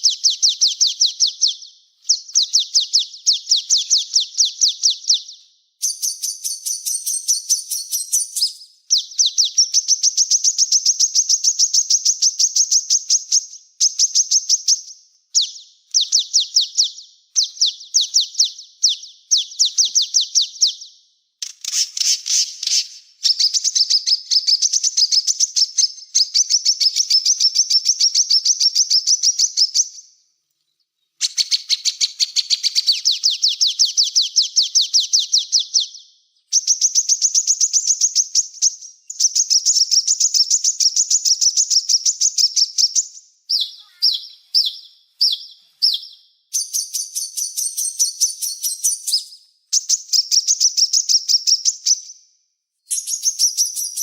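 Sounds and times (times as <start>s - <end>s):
songbird trilling: 0.0s - 30.0s, 31.2s - 52.1s, 52.9s - 54.0s.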